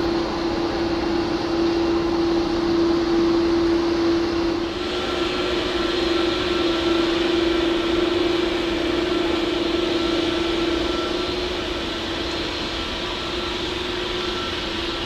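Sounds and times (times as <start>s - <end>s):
jet engine hiss: 0.0s - 15.0s.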